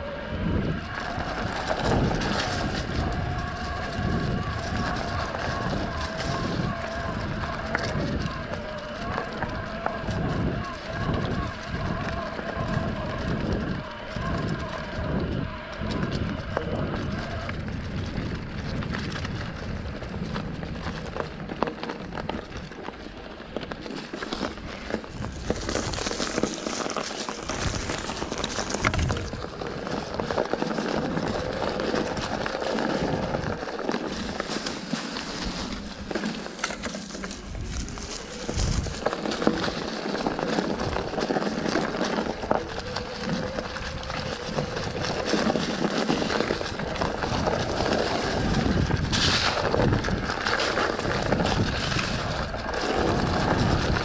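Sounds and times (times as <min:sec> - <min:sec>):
bike clicks and rattles: 0:00.0 - 0:54.0
tyres crackling over dry leaves: 0:00.0 - 0:54.0.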